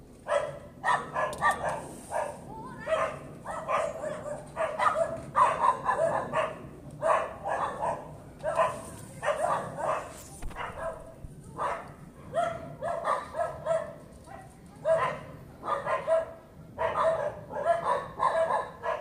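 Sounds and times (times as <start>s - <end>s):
dog barking: 0.3s - 19.0s.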